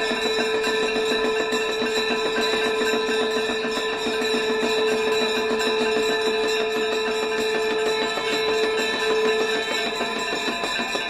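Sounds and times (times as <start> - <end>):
bells ringing fast: 0.0 - 11.0.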